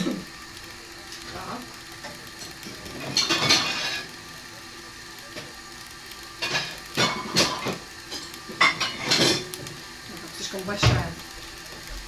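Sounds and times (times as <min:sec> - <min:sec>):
sausages sizzling in frying pan: 0:00.0 - 0:12.0.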